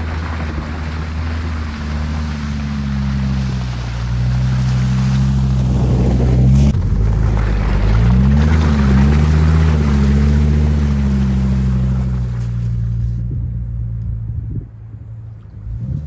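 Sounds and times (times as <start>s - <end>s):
tyres splashing through slush: 0.0s - 13.2s
engine under heavy throttle: 0.0s - 16.0s.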